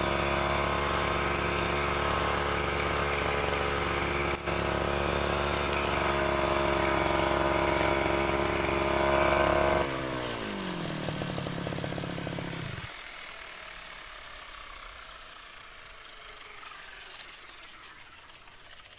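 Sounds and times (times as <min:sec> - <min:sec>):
brushcutter engine running: 0:00.0 - 0:18.9.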